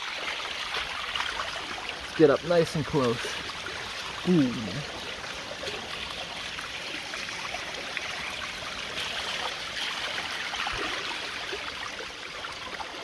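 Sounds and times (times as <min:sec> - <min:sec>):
water trickling down concrete: 0:00.0 - 0:13.0.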